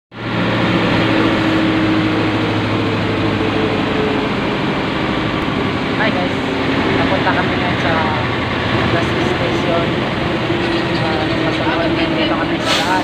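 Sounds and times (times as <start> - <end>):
truck engine droning: 0.1 - 13.0.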